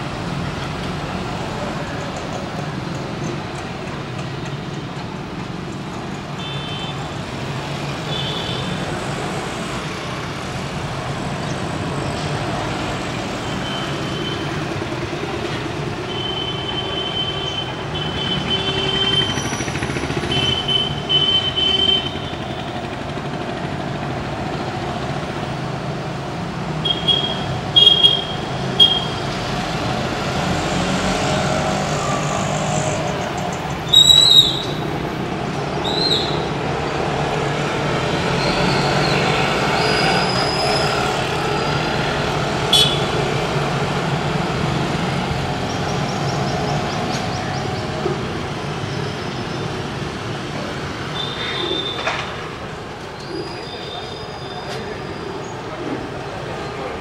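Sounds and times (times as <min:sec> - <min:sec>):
distant city traffic hum: 0:00.0 - 0:57.0.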